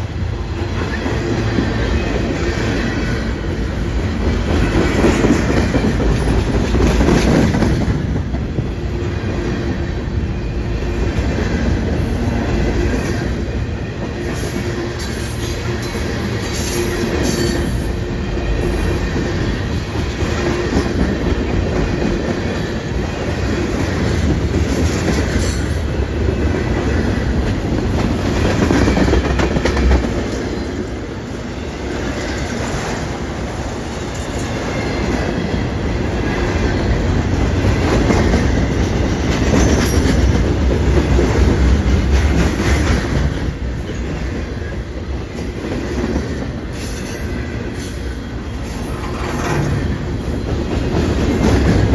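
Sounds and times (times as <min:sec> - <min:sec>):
train rumbling past: 0:00.0 - 0:51.9
train wheels clattering over rails: 0:00.0 - 0:51.9.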